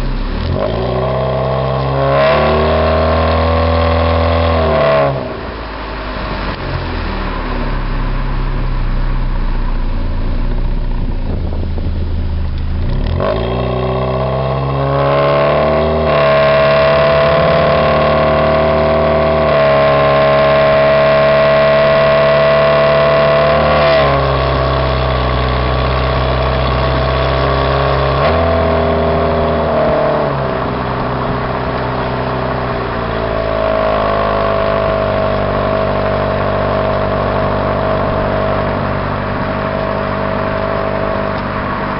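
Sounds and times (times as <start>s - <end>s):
car exhaust revving: 0.0s - 41.9s.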